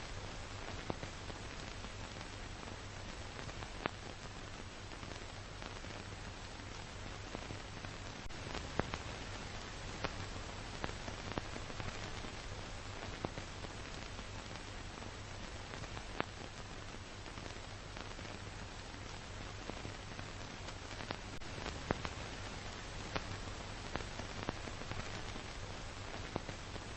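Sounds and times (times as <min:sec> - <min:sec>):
clicks and crackles: 0:00.0 - 0:26.9
film soundtrack hiss: 0:00.0 - 0:26.9.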